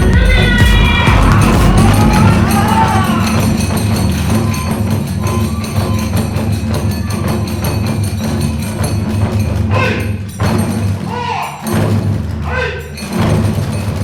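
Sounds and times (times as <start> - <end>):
clashing hand cymbals: 0.0 - 14.0
drums: 0.0 - 14.0.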